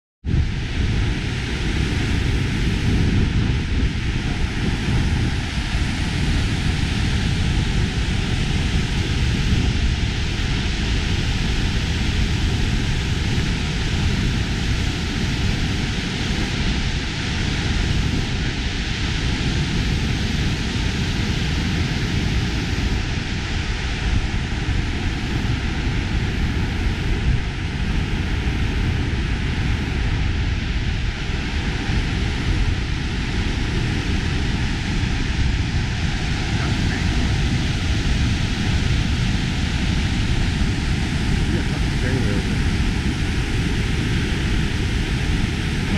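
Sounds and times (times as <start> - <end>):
waterfall roaring: 0.4 - 19.8, 25.5 - 45.9.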